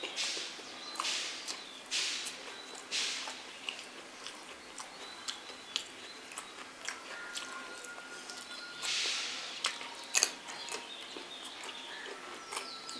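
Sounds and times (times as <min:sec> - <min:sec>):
wet chewing mouth clicks: 0:00.0 - 0:12.9.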